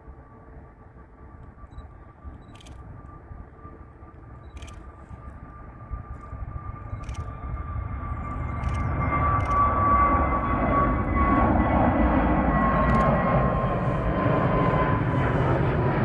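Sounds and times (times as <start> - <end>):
jet airliner engines whine and rumble: 0.0 - 16.0.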